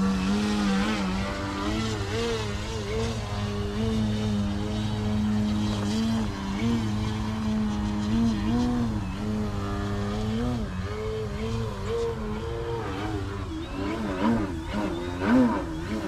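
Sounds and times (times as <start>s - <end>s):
model plane propeller drone: 0.0s - 16.0s.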